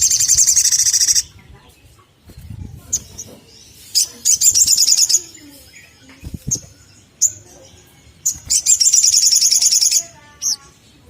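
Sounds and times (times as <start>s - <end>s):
sunbird chirps and trill: 0.0s - 11.0s.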